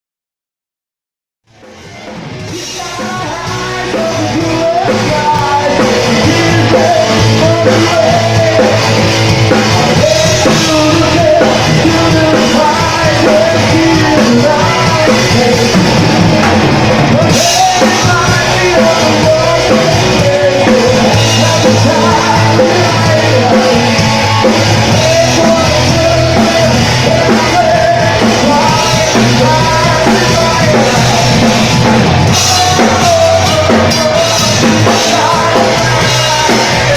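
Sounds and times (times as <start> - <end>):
rock band playing: 1.5 - 36.9
lead singer singing: 2.4 - 36.9.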